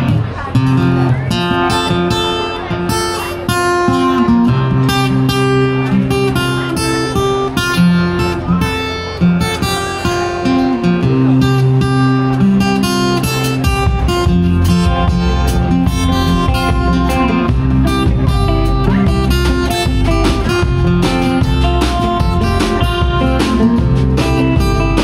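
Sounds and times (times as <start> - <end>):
electric guitar: 0.0 - 25.0
instrumental band playing: 0.0 - 25.0
keyboard: 0.0 - 25.0
strummed acoustic guitar: 0.0 - 25.0.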